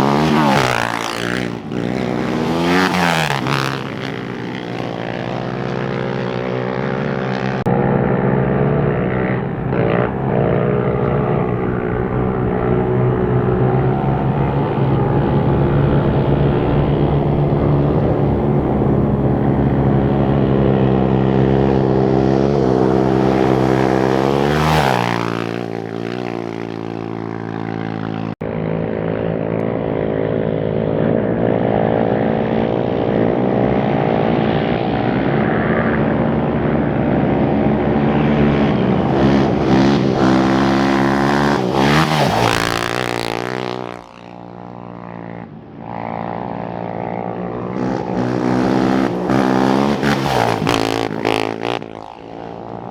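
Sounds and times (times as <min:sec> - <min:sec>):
motorcycles passing at high revs: 0:00.0 - 0:52.9.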